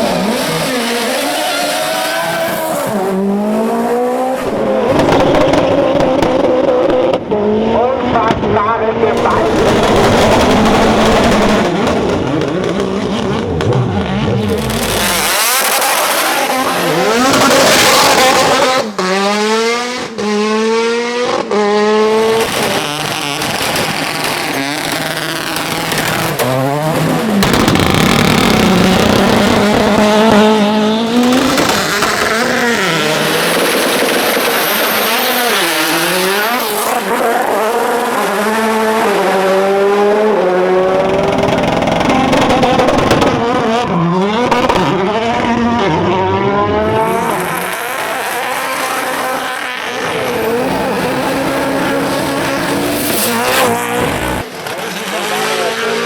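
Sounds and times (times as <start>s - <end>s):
race car engines accelerating: 0.0s - 56.0s.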